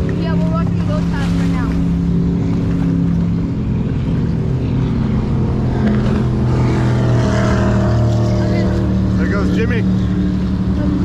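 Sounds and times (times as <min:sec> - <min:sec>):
powerboat engines rumbling: 0:00.0 - 0:11.0.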